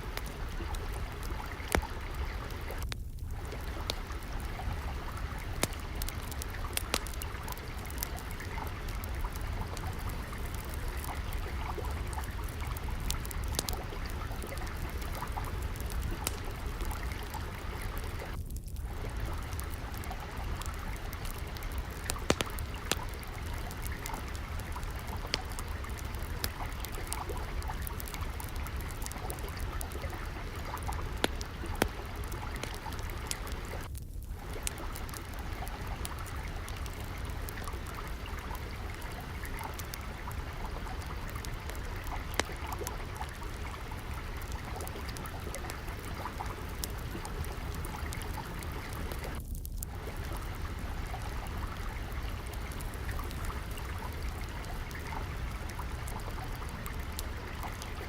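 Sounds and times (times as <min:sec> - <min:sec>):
water trickling: 0:00.0 - 0:58.0
wood fire crackling: 0:00.0 - 0:58.0.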